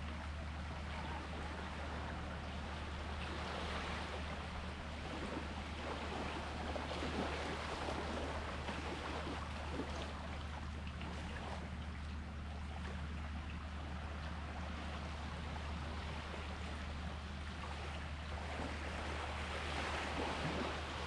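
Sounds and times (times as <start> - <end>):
sea water lapping: 0.0 - 21.0
steady low hum: 0.0 - 21.0.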